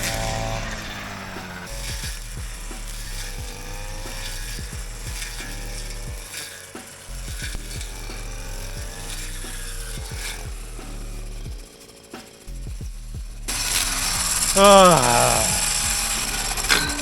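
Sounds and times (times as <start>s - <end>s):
strimmer engine whining: 0.0s - 17.0s.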